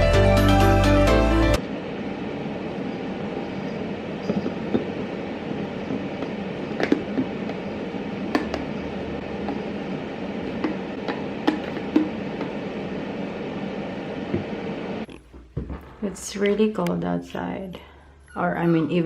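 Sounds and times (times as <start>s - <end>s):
low indoor hum: 0.8s - 19.0s.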